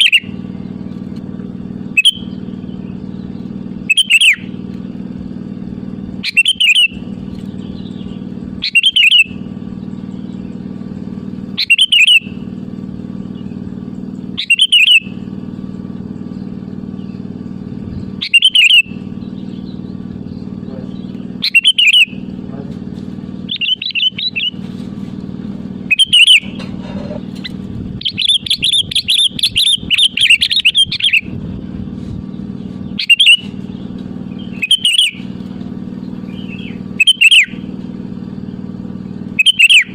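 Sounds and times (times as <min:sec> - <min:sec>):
bulbul calling: 0:00.0 - 0:22.8, 0:23.4 - 0:24.8, 0:25.8 - 0:31.4, 0:32.3 - 0:39.9
steady low hum: 0:00.0 - 0:39.9.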